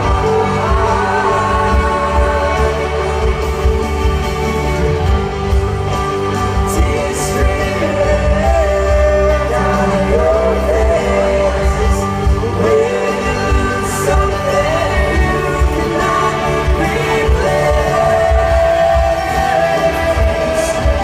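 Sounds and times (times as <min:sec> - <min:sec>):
pop music with steady bass: 0:00.0 - 0:21.0.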